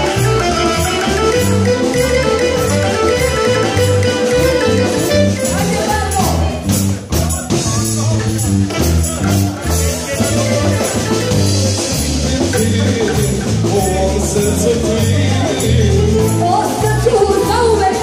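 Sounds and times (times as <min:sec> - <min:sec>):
live band dance music: 0:00.0 - 0:18.0
stepping bass line: 0:00.0 - 0:18.0.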